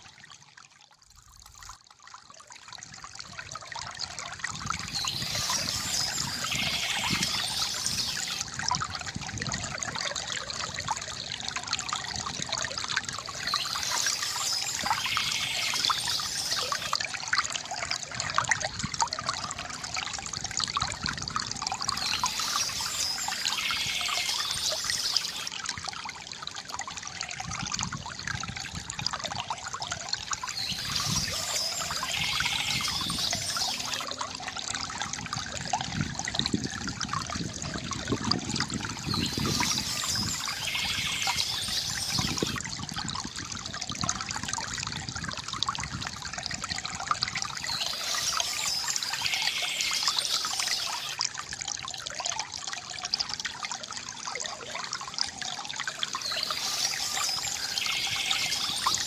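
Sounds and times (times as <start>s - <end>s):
fountain water trickling: 0.0s - 59.0s.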